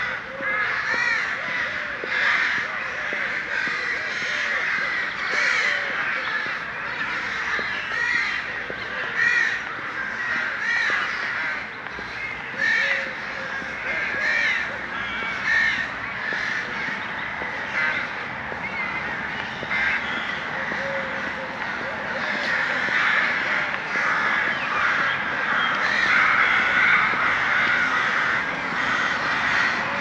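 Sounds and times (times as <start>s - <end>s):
flock of birds cawing: 0.0s - 30.0s.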